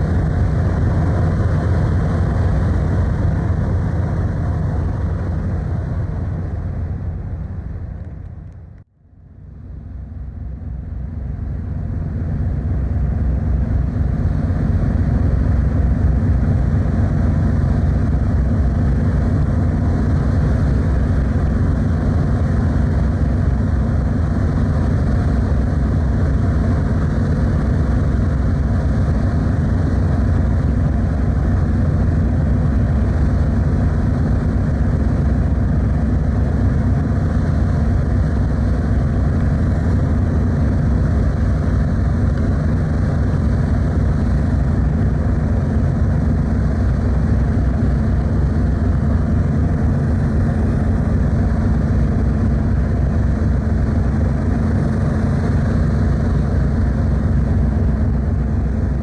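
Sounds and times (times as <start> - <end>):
ferry engine low rumble: 0.0 - 59.0
water: 10.1 - 59.0.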